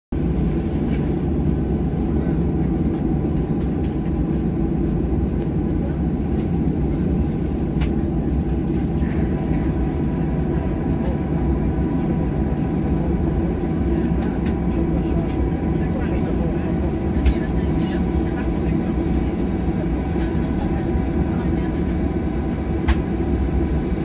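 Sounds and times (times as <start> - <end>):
airplane cabin engine rumble: 0.1 - 24.0
faint steady engine whine: 0.2 - 24.0.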